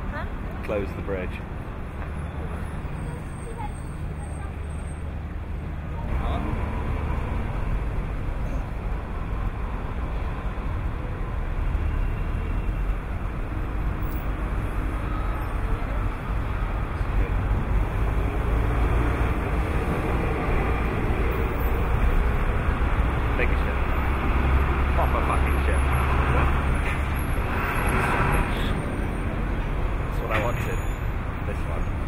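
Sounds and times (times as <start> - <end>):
low rumble of traffic: 0.0 - 32.0
wash of city noise: 0.0 - 32.0.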